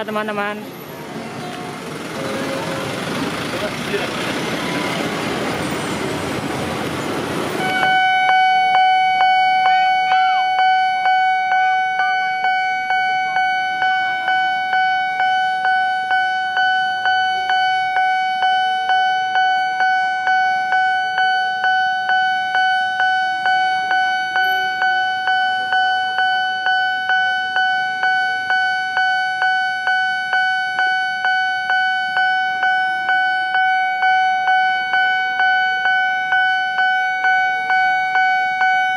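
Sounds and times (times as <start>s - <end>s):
level crossing warning bell ringing: 0.0s - 38.9s.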